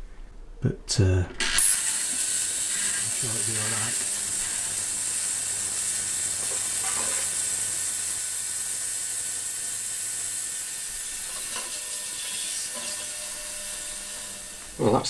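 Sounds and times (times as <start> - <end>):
ultrasonic cleaner hissing: 1.6 - 15.0
low hum: 1.8 - 15.0.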